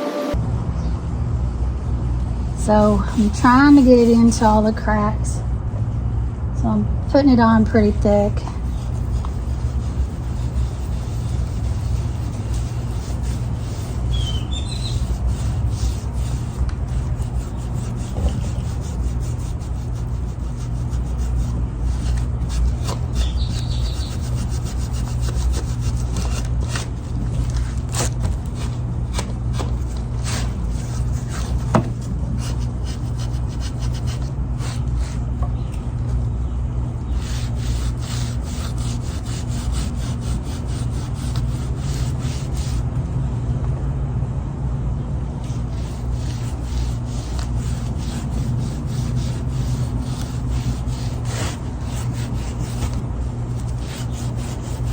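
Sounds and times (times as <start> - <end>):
steady low hum: 0.2 - 54.9
rag rubbing on wooden board: 2.7 - 4.7, 7.7 - 35.5, 36.9 - 42.9, 45.4 - 54.9.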